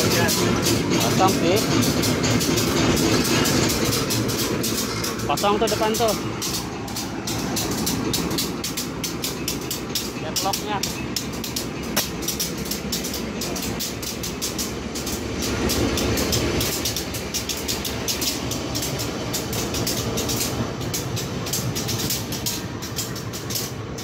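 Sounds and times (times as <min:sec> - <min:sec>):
train clicking and rattling: 0:00.0 - 0:24.0
train running gear rumble: 0:00.0 - 0:24.0.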